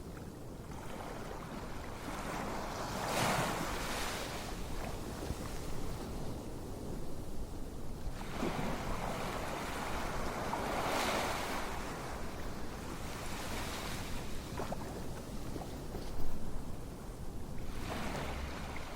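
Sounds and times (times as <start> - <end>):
ocean waves on shore: 0.0 - 18.9.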